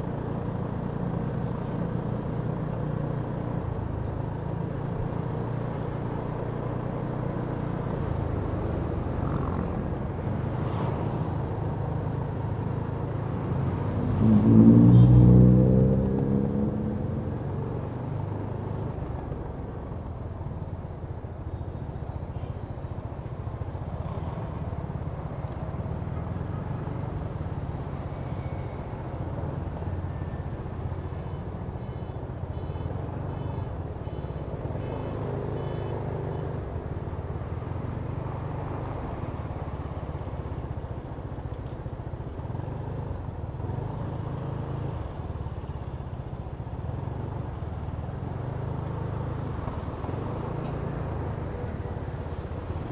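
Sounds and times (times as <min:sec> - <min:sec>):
road and traffic noise: 0:00.0 - 0:52.9.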